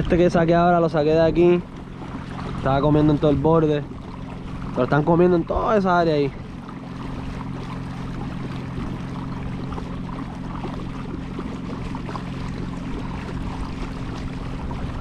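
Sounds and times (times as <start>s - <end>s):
steady low hum: 0.0s - 15.0s
water lapping around a kayak: 0.0s - 15.0s.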